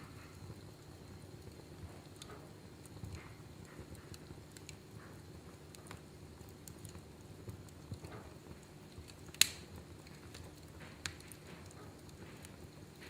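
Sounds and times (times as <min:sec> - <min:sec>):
low fire rumble: 0:00.0 - 0:13.0
wood fire crackling: 0:00.0 - 0:13.0.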